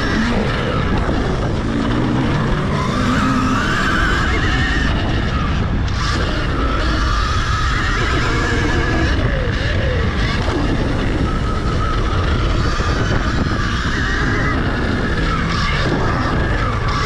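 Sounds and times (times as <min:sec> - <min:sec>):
heavy wind rumble: 0:00.0 - 0:17.0.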